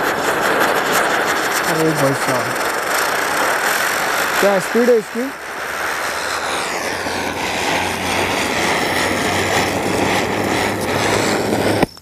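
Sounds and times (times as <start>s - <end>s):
spinner firework hissing: 0.0s - 12.0s.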